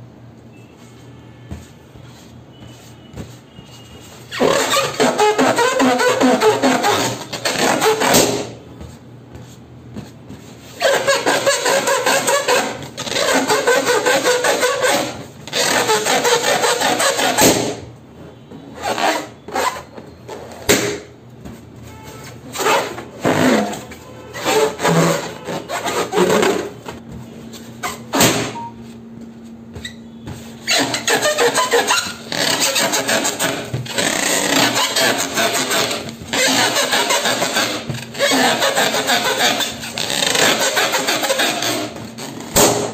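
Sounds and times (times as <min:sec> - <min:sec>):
balloons squeaking: 0:00.5 - 0:42.9.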